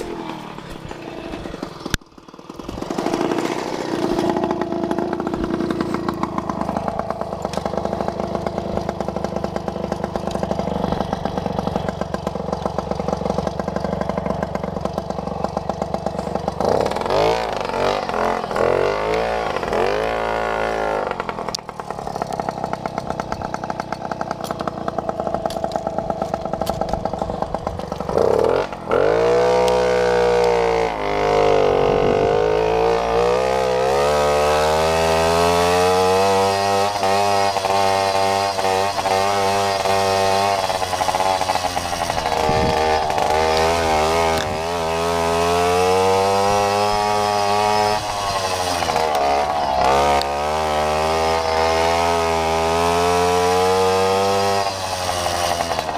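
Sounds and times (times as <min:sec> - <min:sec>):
moped engine revving: 0:00.0 - 0:55.9.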